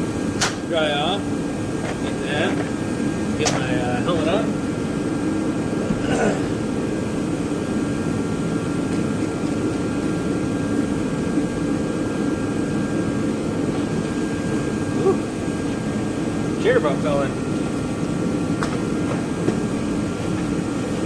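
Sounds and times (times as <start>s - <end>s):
steady machine drone: 0.0s - 21.0s.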